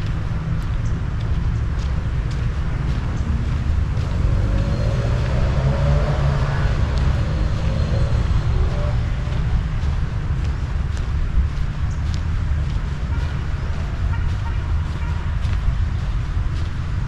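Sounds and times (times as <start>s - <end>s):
steady low rumble: 0.0s - 17.0s
vehicle passing: 0.0s - 17.0s.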